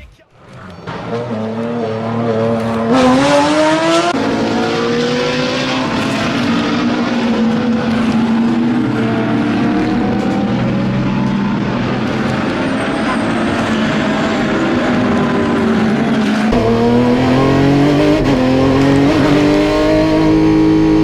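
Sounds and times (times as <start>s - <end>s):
race car engine accelerating: 0.4s - 21.0s.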